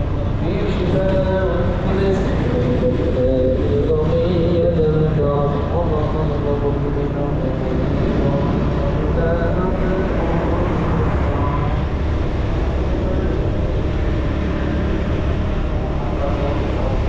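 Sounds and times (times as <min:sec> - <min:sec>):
vehicle driving on paved road: 0:00.0 - 0:17.0.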